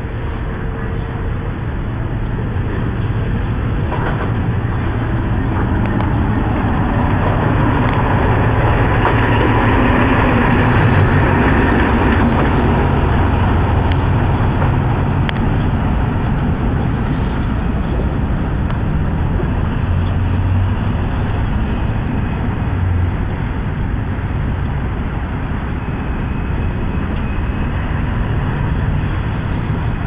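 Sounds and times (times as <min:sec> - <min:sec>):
diesel locomotive passing: 0:00.0 - 0:30.0.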